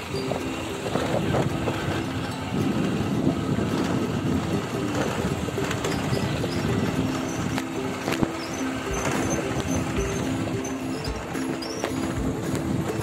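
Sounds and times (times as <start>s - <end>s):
motorcycle engine rumble: 0.0s - 13.0s
simple music melody: 0.0s - 13.0s.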